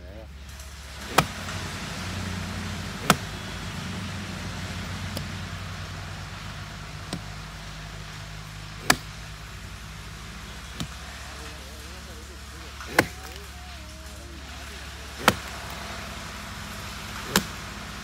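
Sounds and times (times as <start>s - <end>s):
steady low hum: 0.0s - 18.0s
digging tool striking earth: 0.6s - 9.3s, 10.0s - 16.1s, 17.1s - 17.7s.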